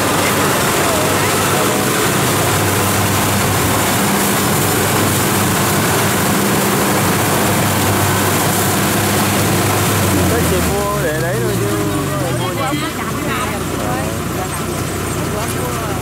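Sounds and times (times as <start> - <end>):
combine harvester drone: 0.0 - 16.0.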